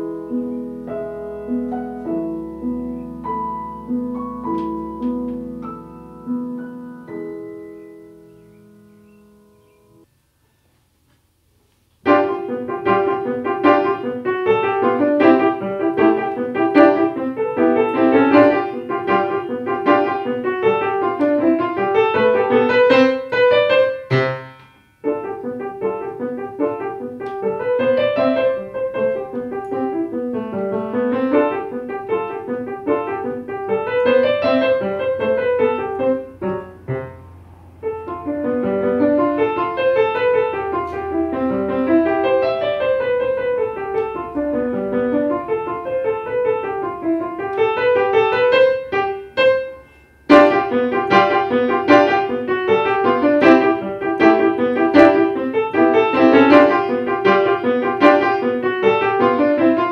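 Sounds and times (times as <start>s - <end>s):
grand piano runs: 0.0s - 10.0s, 12.1s - 59.9s.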